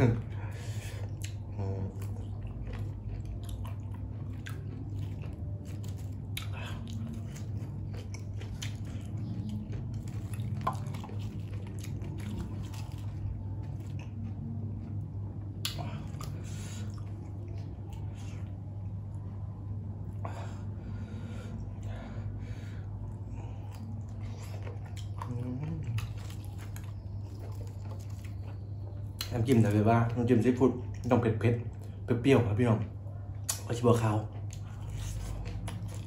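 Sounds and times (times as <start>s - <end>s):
low hum: 0.0s - 36.0s
wet chewing with mouth clicks: 0.2s - 18.8s, 23.0s - 32.0s, 33.2s - 36.0s.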